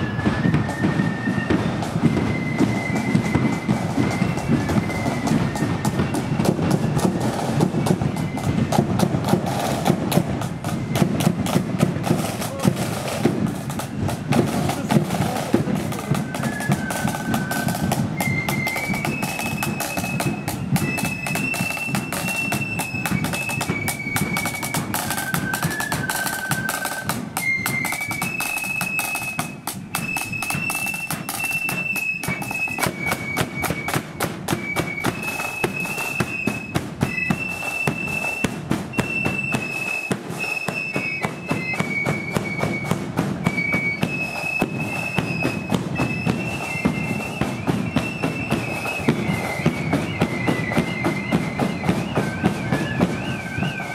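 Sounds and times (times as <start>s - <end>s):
flute melody: 0.0s - 53.9s
snare drum rolls: 0.0s - 53.9s.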